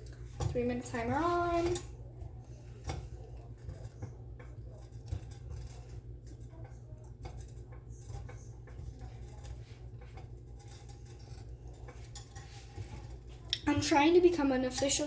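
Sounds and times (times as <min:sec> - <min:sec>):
spoon scraping a pot: 0:00.0 - 0:13.8
steady low hum: 0:00.0 - 0:15.0.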